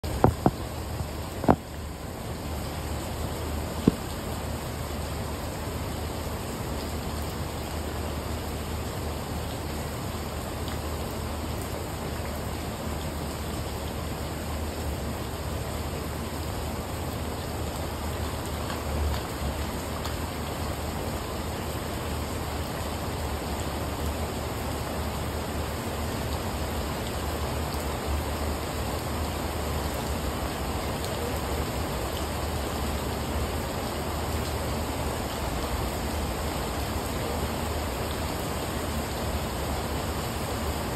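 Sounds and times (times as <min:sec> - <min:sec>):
rain on patio and plants: 0:00.0 - 0:40.9.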